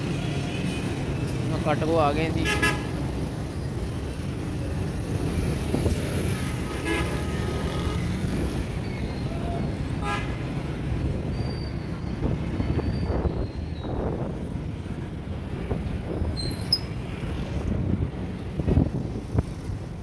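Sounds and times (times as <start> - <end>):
traffic engines and road noise: 0.0 - 20.0.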